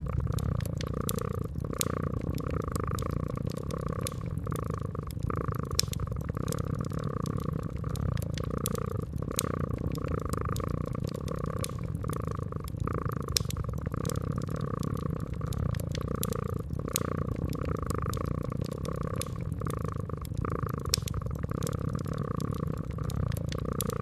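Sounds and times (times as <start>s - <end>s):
cat purring: 0.0s - 24.0s
fireplace pops and crackles: 0.1s - 24.0s.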